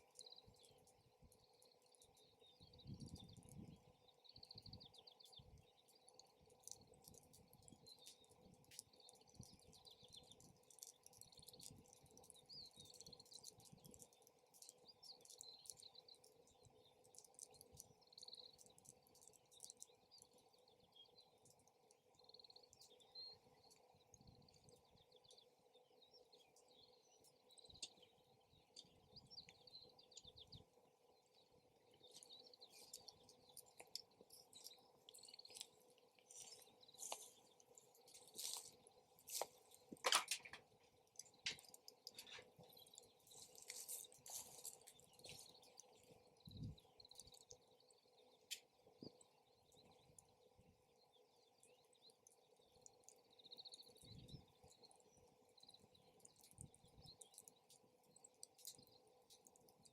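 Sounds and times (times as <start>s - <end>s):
campfire crackling and popping: 0.0s - 50.8s, 52.2s - 59.9s
small birds chirping: 0.0s - 59.9s.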